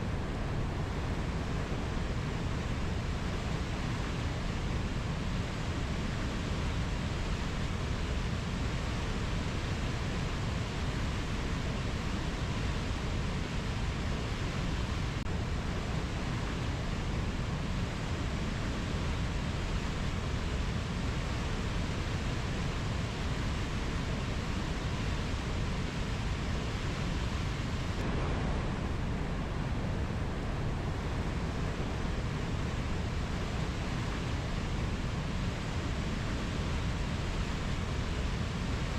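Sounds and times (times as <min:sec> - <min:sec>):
rainforest rushing ambience: 0:00.0 - 0:38.9.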